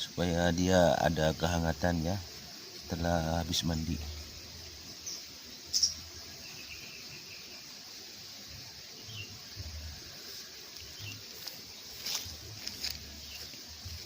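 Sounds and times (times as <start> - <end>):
high insect-like hiss: 0.0 - 14.0.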